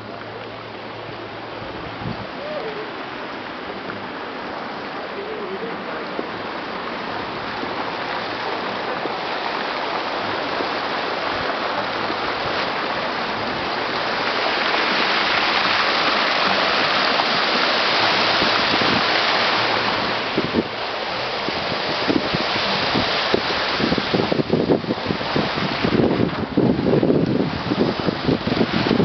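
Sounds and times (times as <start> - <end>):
fountain water splashing into pool: 0.0 - 29.0.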